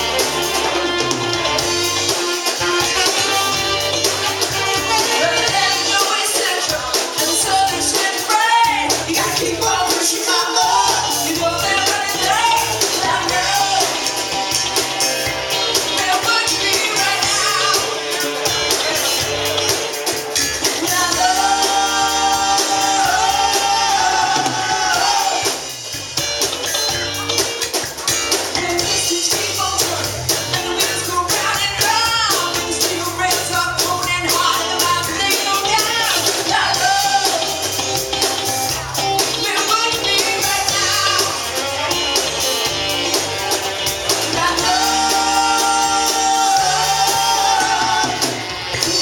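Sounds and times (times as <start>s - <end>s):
live rock band playing: 0.0s - 49.0s.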